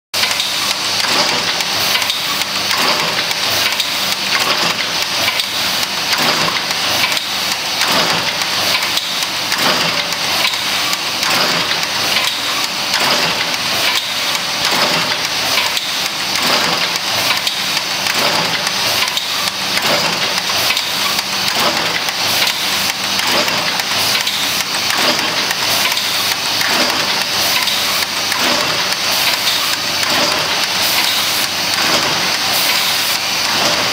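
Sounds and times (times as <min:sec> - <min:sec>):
machine clattering: 0:00.2 - 0:33.9.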